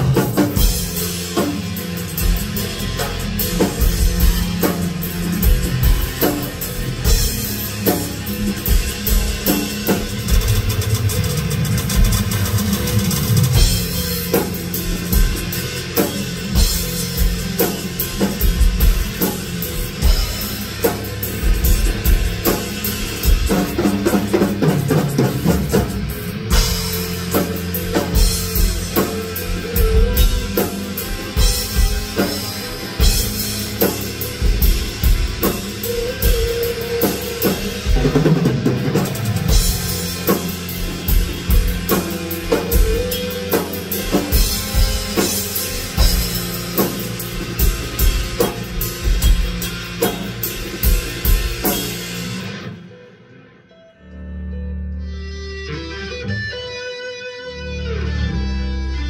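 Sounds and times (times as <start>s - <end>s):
drum kit beat: 0.0s - 52.7s.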